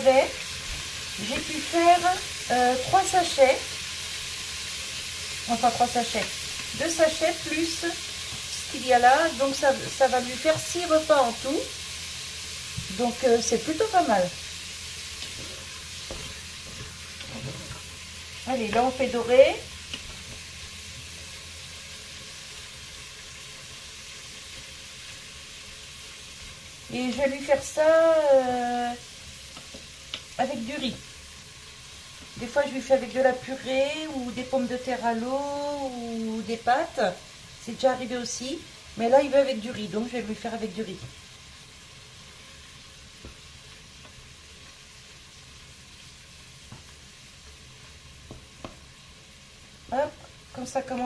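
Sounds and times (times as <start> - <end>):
meat sizzling in a hot bowl: 0.0 - 51.0.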